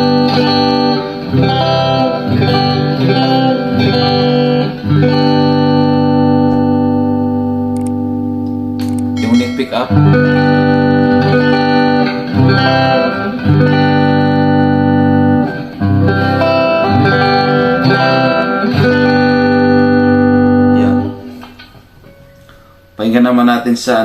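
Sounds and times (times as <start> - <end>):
clean electric guitar strummed chords: 0.0 - 22.7.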